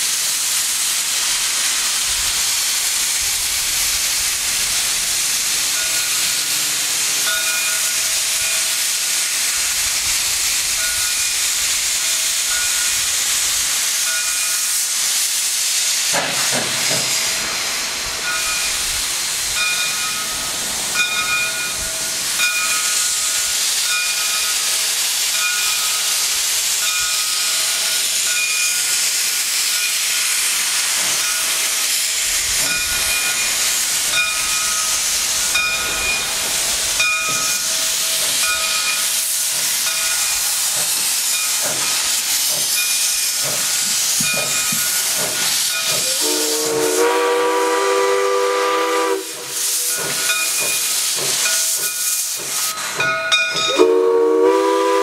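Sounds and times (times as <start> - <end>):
steam hissing from locomotive: 0.0 - 55.0.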